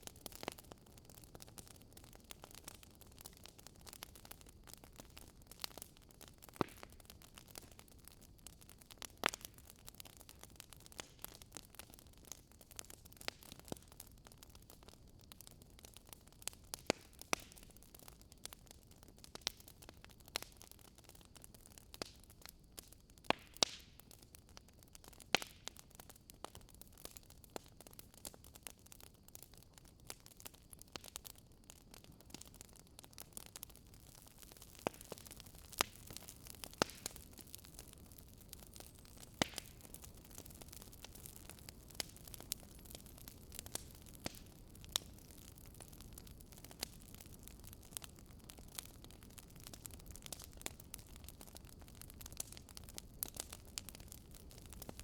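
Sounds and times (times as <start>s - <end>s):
firewood crackling: 0.0s - 55.0s.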